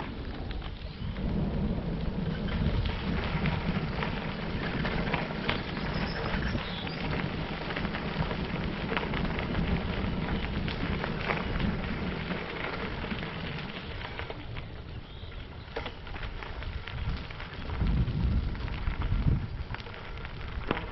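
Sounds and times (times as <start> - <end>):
bicycle tyres on gravel: 0.0 - 20.9.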